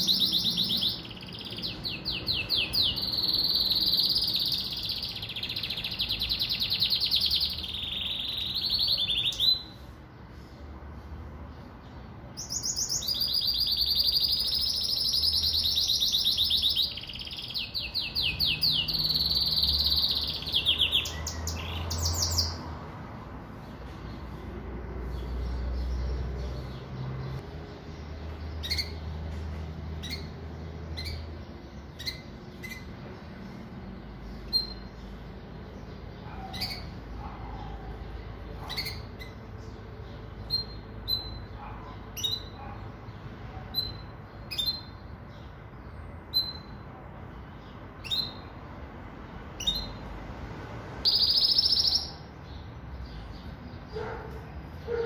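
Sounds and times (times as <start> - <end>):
bird chirps and calls: 0.0 - 22.8, 23.5 - 48.8, 49.5 - 50.1, 51.0 - 55.0.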